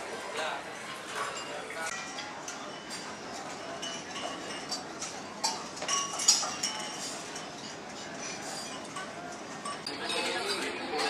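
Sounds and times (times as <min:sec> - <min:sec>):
cutlery and glassware clinking: 0:00.4 - 0:11.0.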